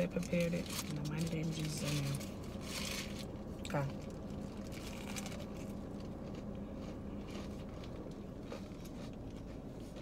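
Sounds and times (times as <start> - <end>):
chewing crispy food crunches: 0.0 - 10.0
steady low hum: 0.0 - 10.0.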